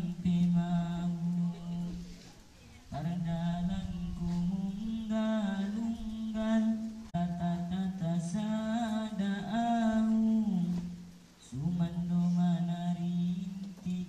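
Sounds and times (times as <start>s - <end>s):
voice chanting over loudspeaker: 0.0s - 14.0s.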